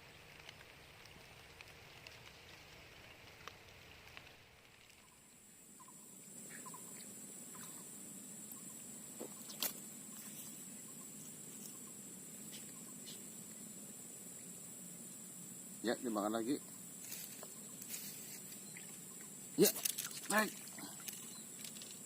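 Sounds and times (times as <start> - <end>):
insect buzz: 1.6 - 22.0.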